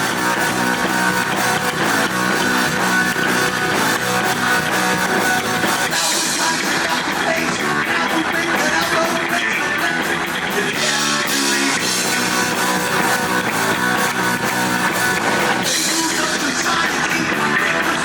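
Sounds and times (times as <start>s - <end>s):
distorted electric guitars: 0.0s - 18.0s
drum kit fast beat: 0.0s - 18.0s.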